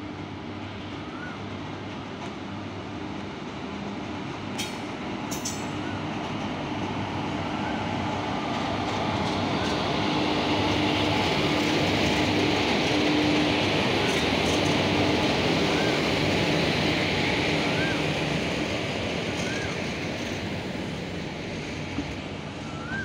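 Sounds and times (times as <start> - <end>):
electric locomotive hum: 0.0 - 23.0
train wheel rumble: 0.0 - 23.0.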